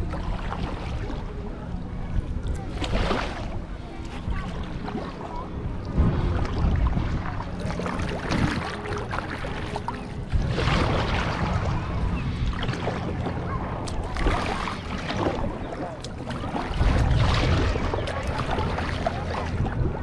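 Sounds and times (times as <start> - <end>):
paddle splashing water: 0.0 - 1.6, 2.2 - 20.0
steady low rumble: 0.0 - 20.0.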